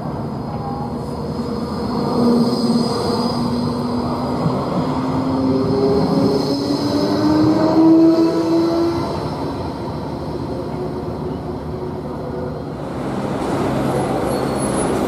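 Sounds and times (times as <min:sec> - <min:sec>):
tram wheels rumbling on rails: 0:00.0 - 0:15.0
tram whine rising in pitch: 0:00.0 - 0:15.0.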